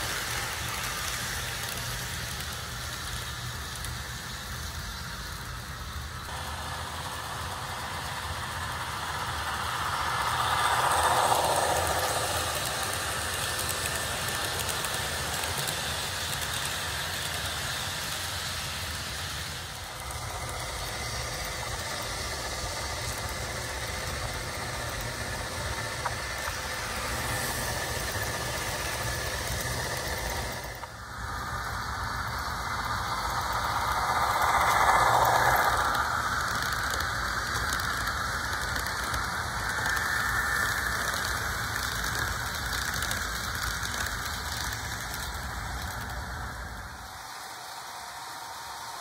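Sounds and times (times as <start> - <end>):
model train rolling on track: 0.0 - 49.0.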